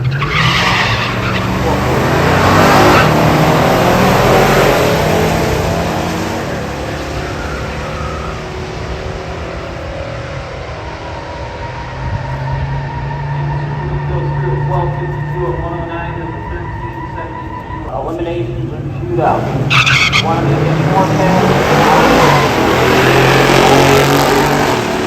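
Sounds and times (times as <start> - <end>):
drag car engines at full throttle: 0.0 - 25.0.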